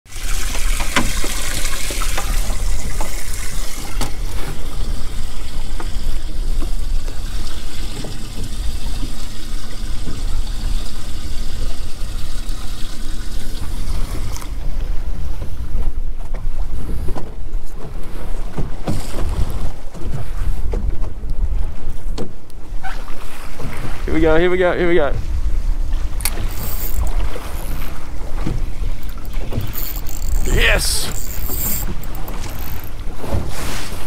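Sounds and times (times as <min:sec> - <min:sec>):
water trickling and splashing: 0:00.0 - 0:15.6, 0:17.8 - 0:34.0.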